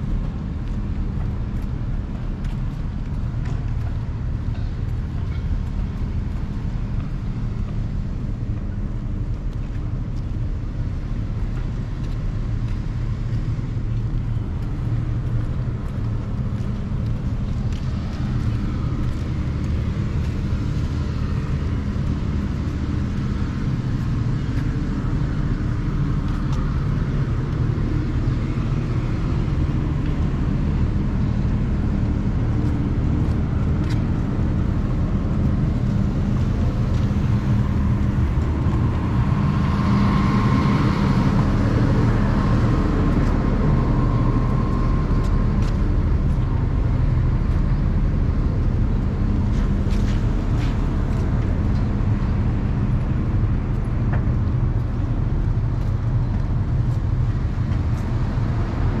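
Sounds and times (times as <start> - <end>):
road noise: 0.0 - 59.0
vehicle engine hum: 0.0 - 59.0.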